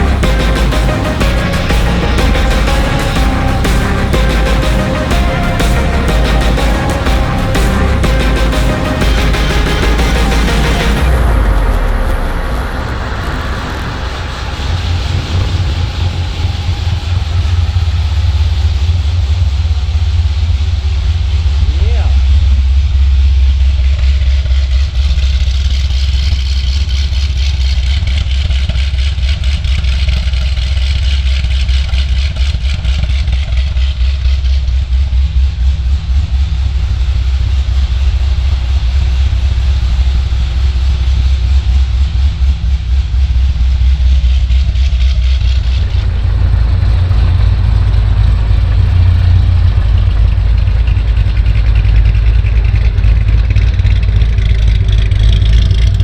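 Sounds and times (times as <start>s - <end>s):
loud choppy car engine running: 0.0s - 56.0s.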